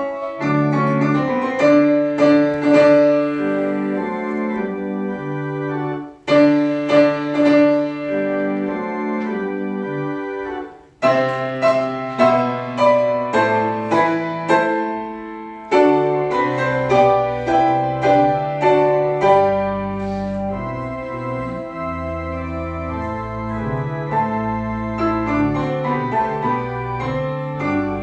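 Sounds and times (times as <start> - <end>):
piano chords: 0.0 - 28.0.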